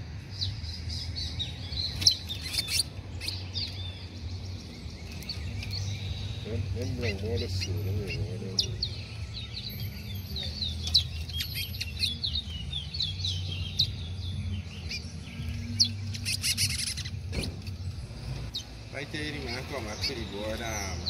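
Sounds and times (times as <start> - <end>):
finches singing: 0.0 - 21.0.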